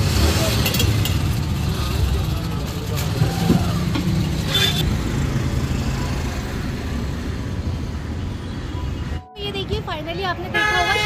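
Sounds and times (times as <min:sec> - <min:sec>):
passing road vehicles rumble: 0:00.0 - 0:11.0.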